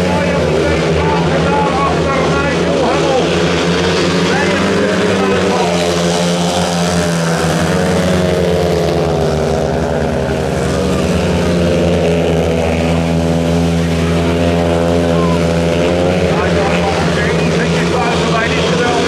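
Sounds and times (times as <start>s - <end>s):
motorcycle engines racing: 0.0s - 19.0s.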